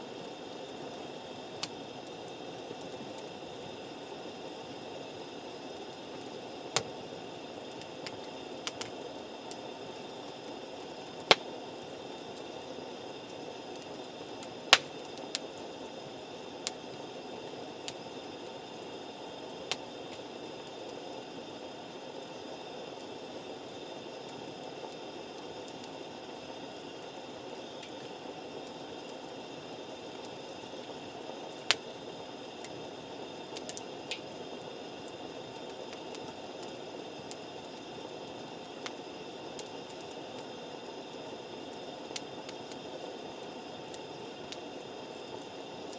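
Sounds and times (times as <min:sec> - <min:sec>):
campfire hissing: 0:00.0 - 0:45.9.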